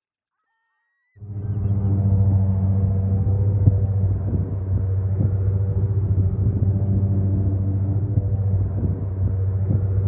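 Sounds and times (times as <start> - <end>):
airboat engine drone: 1.2 - 10.0.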